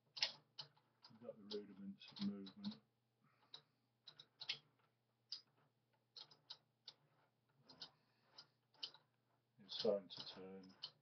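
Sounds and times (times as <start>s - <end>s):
sewing machine metal clicks: 0.0s - 2.8s, 3.4s - 11.0s.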